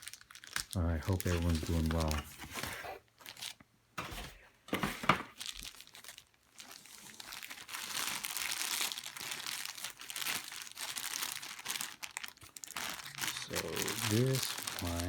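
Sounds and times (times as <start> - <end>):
packaging tearing: 0.0 - 3.6, 5.3 - 15.0
packaging crinkling and rustling: 0.0 - 15.0.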